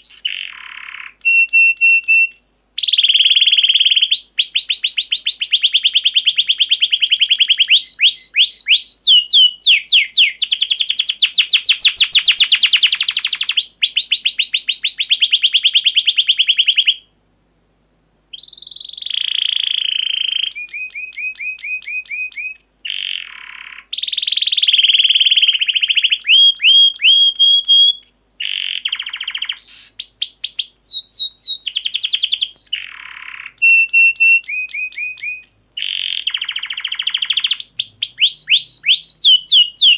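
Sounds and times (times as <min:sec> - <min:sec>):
canary singing trills: 0:00.0 - 0:17.1, 0:18.3 - 0:39.9.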